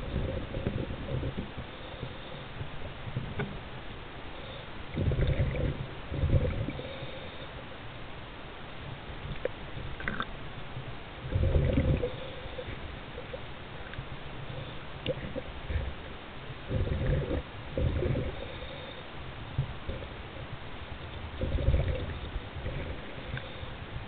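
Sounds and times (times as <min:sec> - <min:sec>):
muffled underwater bubbling: 0:00.0 - 0:02.5, 0:04.4 - 0:07.4, 0:09.2 - 0:10.4, 0:11.2 - 0:24.0
low underwater rumble: 0:00.0 - 0:03.8, 0:04.9 - 0:07.0, 0:08.9 - 0:18.6, 0:19.3 - 0:24.0.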